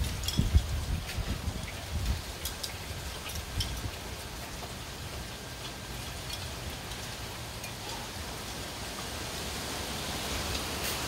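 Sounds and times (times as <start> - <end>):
heavy rain hiss: 0.0 - 11.0
water drips: 0.0 - 11.0.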